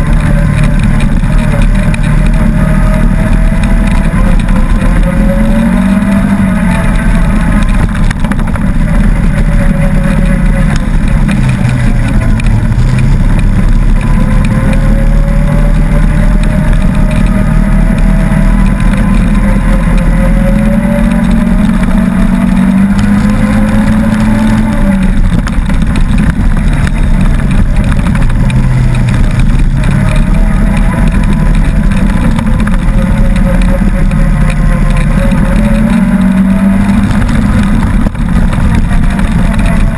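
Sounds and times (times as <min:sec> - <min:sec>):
off-road vehicle engine revving: 0:00.0 - 0:39.9
tyre noise: 0:00.0 - 0:39.9
wind: 0:00.0 - 0:39.9.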